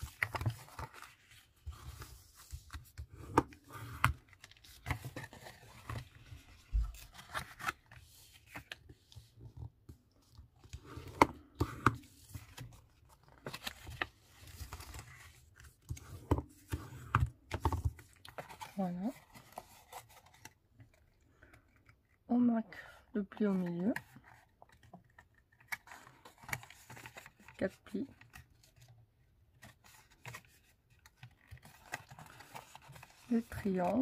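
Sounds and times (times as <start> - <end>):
card stock rustling: 0.0 - 22.1, 23.5 - 34.0.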